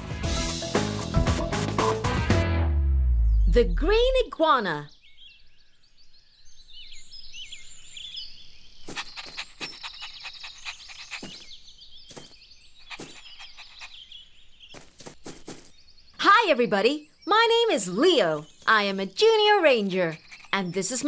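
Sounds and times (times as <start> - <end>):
small birds chirping: 3.2 - 21.0.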